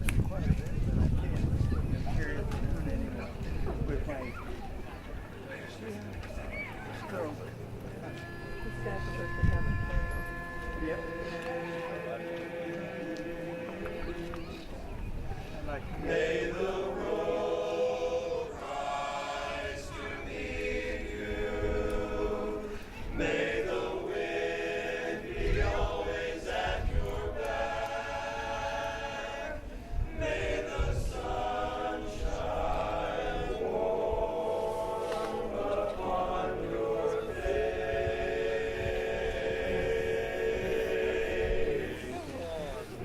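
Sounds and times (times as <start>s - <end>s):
choir singing in harmony: 8.0s - 43.0s.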